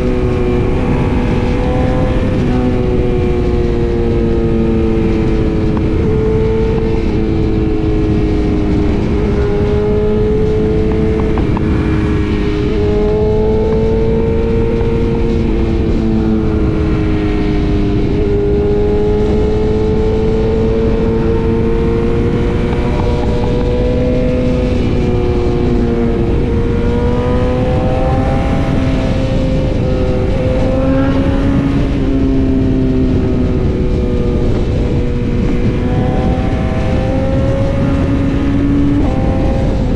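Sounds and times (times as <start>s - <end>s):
motorcycle engine cruising: 0.0s - 39.9s
wind rushing: 0.0s - 39.9s.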